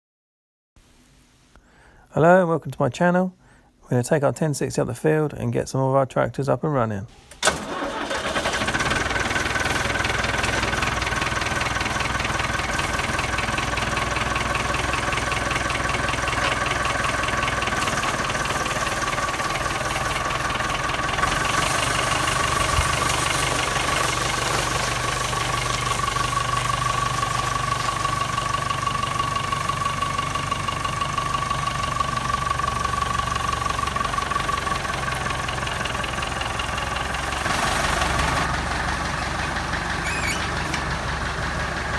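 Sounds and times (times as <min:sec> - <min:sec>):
tractor engine running: 0:07.3 - 0:41.9.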